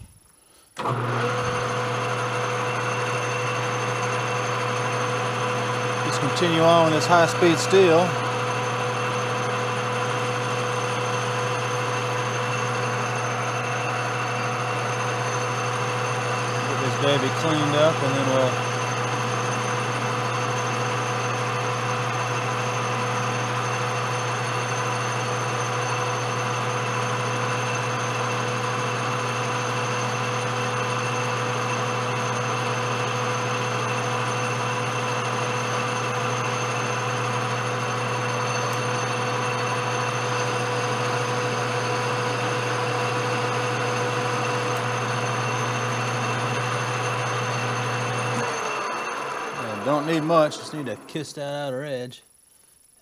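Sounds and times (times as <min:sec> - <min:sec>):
metal lathe humming and whining: 0:00.8 - 0:51.9.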